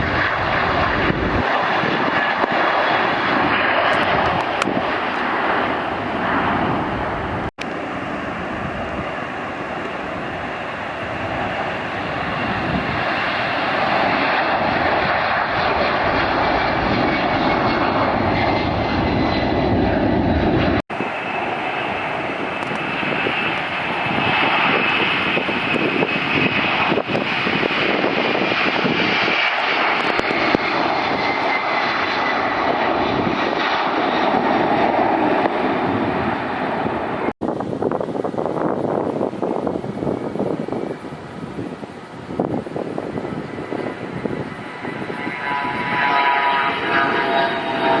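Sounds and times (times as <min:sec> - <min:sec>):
jet engine roar with whine: 0:00.0 - 0:48.0.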